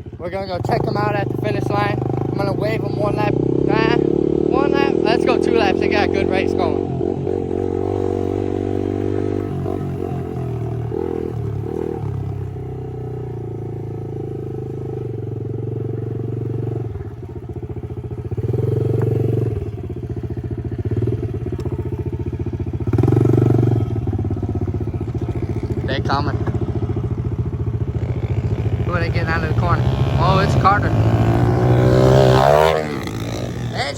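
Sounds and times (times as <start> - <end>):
pit bike engines revving: 0.0 - 33.9.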